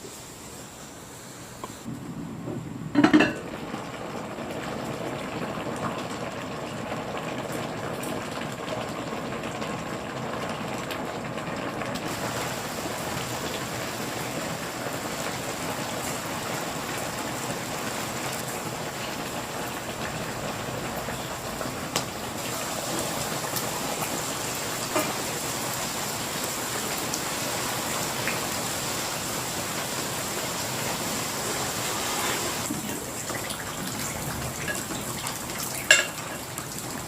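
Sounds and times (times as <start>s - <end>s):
soup bubbling in a pot: 2.9s - 37.0s.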